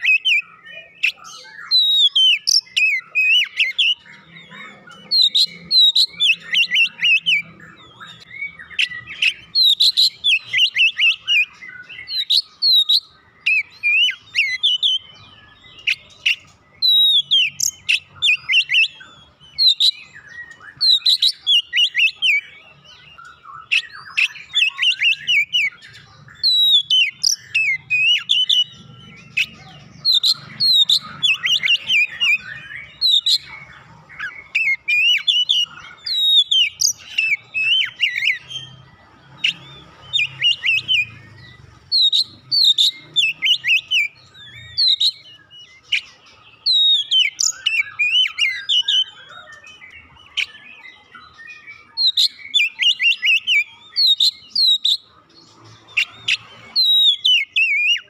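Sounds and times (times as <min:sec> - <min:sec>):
bird singing whistled phrases: 0:00.0 - 0:22.5, 0:23.2 - 0:38.8, 0:39.4 - 0:55.1, 0:55.9 - 0:58.0.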